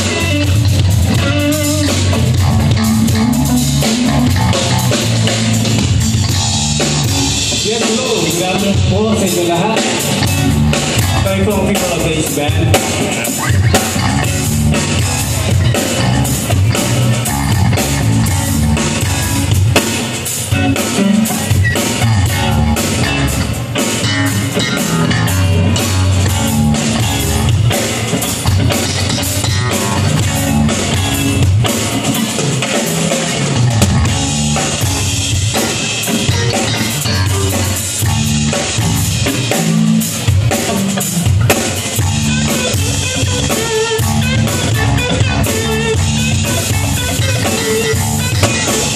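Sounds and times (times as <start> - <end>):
drum kit kick and rimshots: 0.0 - 48.9
live rock band playing: 0.0 - 48.9.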